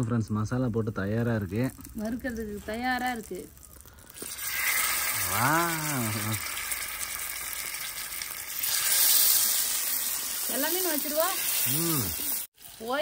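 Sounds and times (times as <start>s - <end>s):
fish frying in hot oil: 0.8s - 13.0s.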